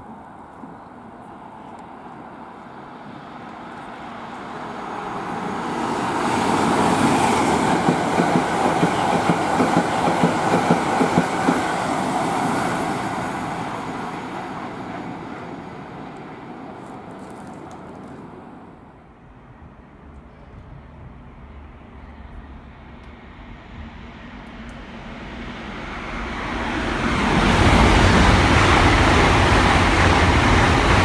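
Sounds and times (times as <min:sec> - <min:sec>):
high-speed train passing: 0:00.0 - 0:31.0.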